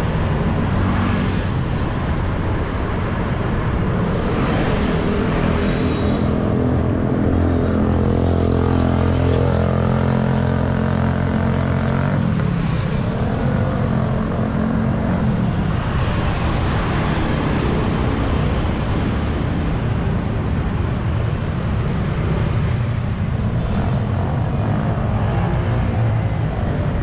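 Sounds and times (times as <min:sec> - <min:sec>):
motorbike and vehicle engines: 0:00.0 - 0:27.0.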